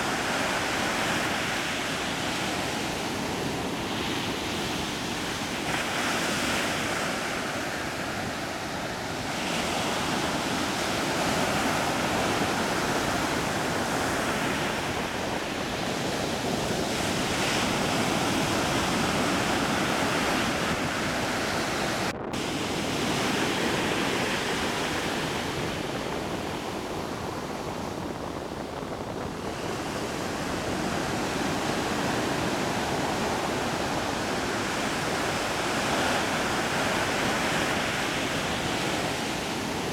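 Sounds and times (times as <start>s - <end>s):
sea waves rushing: 0.0s - 39.9s
wind: 0.0s - 39.9s.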